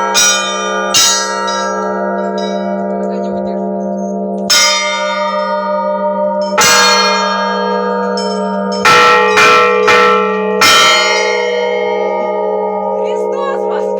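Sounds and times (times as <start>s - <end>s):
large bell low hum: 0.0s - 13.9s
small bells struck: 0.0s - 13.9s.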